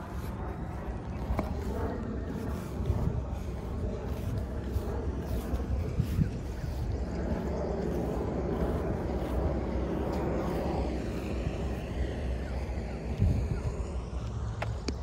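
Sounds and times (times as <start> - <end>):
distant engine drone: 0.0 - 15.0
low rumble: 0.0 - 15.0.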